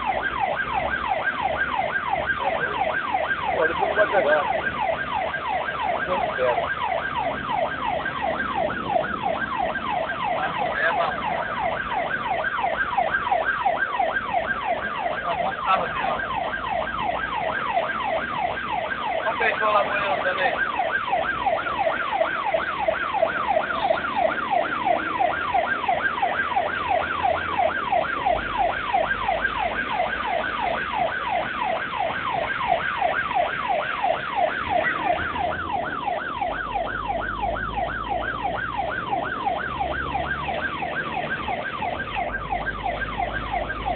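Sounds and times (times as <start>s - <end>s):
ambulance siren yelping: 0.0s - 43.9s.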